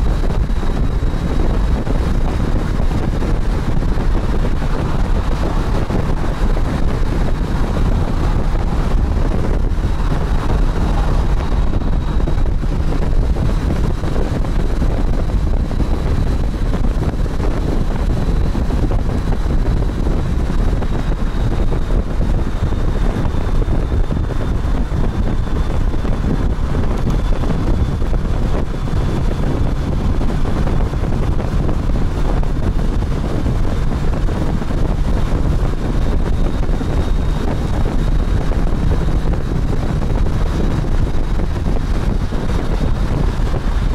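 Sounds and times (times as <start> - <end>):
heavy wind rush on microphone: 0.0 - 43.9.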